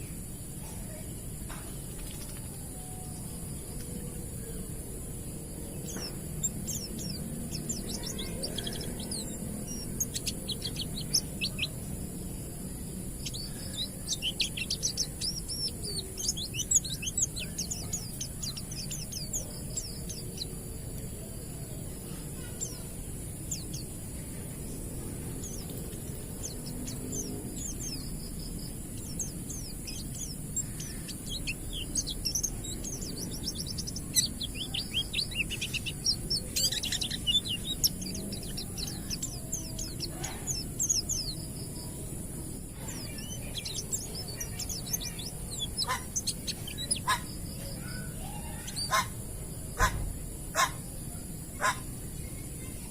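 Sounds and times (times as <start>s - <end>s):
birds twittering: 0.0s - 52.9s.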